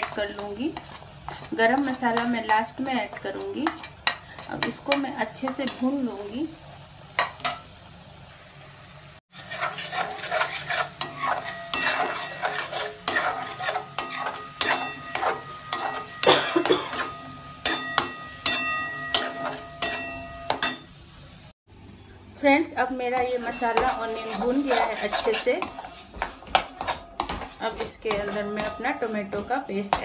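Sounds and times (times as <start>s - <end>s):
metal spatula scraping a metal pan: 0.0s - 6.0s, 9.3s - 20.9s, 23.0s - 30.0s.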